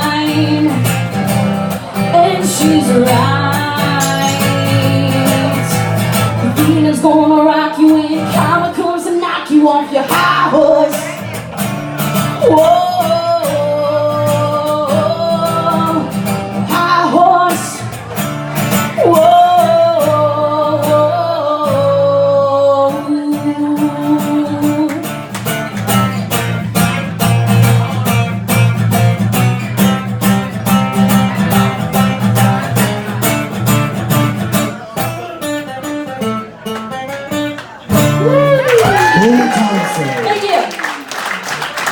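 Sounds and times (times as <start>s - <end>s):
strummed acoustic guitar: 0.0s - 38.6s.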